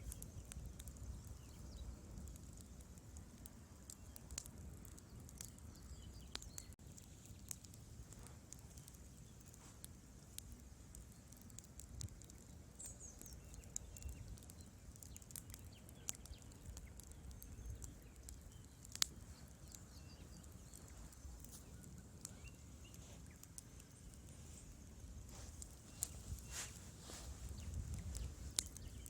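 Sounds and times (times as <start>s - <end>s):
wood fire crackling: 0.0s - 29.0s
logs popping: 2.2s - 29.0s.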